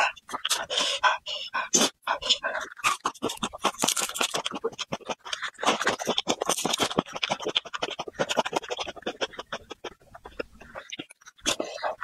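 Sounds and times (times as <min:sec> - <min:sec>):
chewing garlic crunches: 0:01.8 - 0:12.0.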